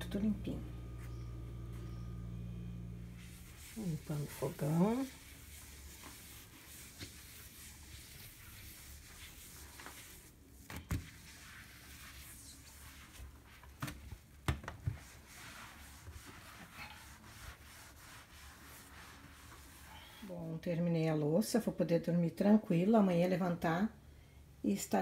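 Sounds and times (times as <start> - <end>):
cloth rubbing on cooktop: 0.0 - 20.7.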